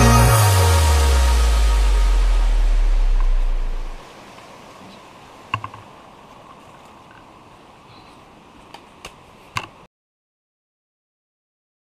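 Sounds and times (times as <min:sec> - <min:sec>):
faint hiss: 0:00.0 - 0:09.9.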